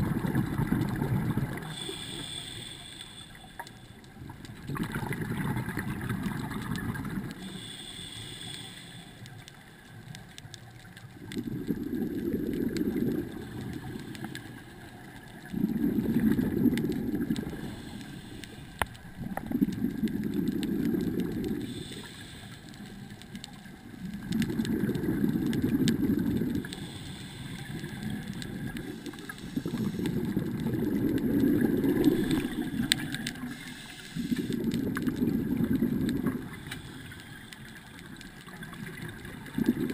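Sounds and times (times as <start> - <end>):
underwater bubbles rumbling: 0.0 - 2.6, 4.0 - 7.5, 10.0 - 39.9.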